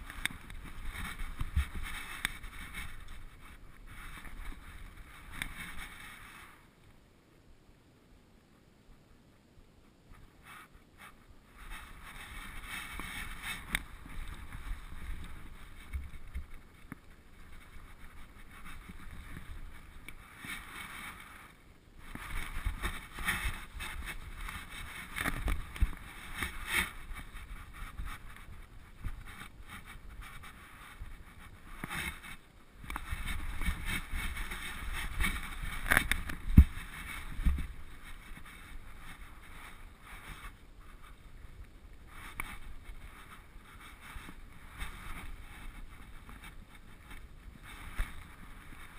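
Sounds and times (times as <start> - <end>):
fur and straps rubbing camera: 0.0 - 6.6, 10.4 - 48.9.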